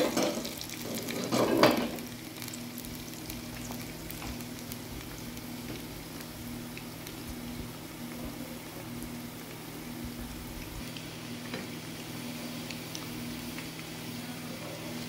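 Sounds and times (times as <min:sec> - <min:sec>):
chips sizzling in hot oil: 0:00.0 - 0:15.0.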